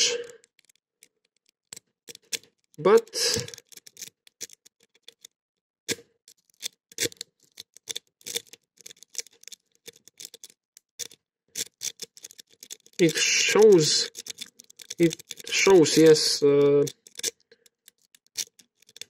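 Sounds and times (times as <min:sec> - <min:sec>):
lock pick clicking and scraping: 0:00.3 - 0:15.5, 0:16.6 - 0:19.0.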